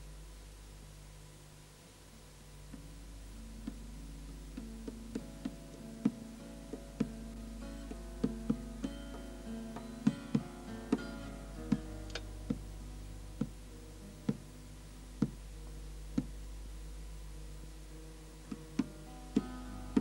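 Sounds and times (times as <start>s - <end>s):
steady low hum: 0.0s - 20.0s
plucked string instrument notes: 2.6s - 20.0s.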